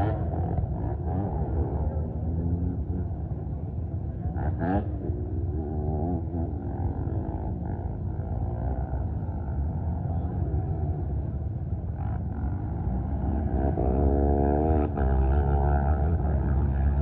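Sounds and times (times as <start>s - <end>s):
atv engines revving: 0.0s - 17.0s.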